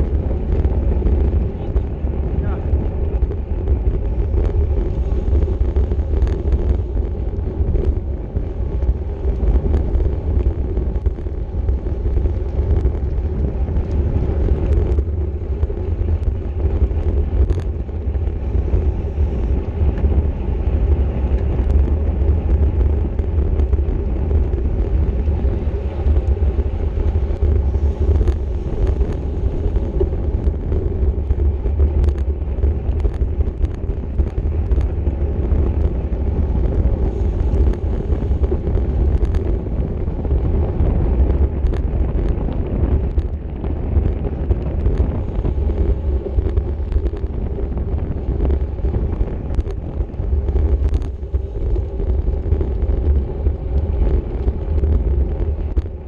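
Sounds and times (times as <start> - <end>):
road and tyre noise: 0.0 - 56.0
wind buffeting microphone: 0.0 - 56.0.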